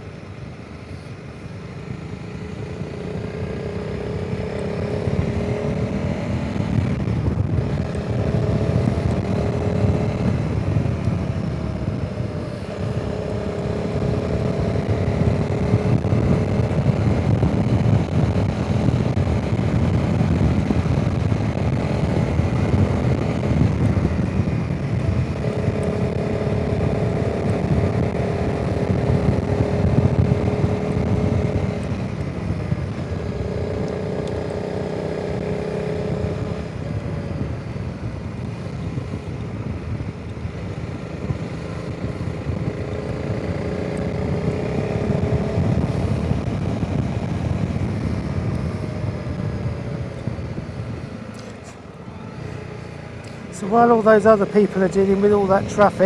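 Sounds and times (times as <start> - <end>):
motorcycle engine running: 0.0 - 56.0
wind noise on microphone: 2.6 - 56.0.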